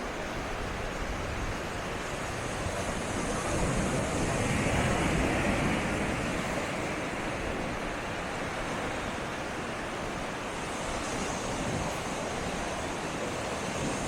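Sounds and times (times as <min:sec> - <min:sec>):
sea waves washing in: 0:00.0 - 0:14.0.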